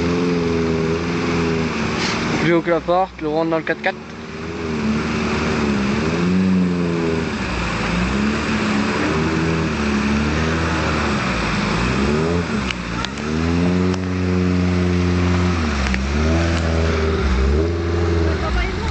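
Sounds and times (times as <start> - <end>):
off-road vehicle engine revving: 0.0 - 18.9
water splashing: 0.0 - 18.9.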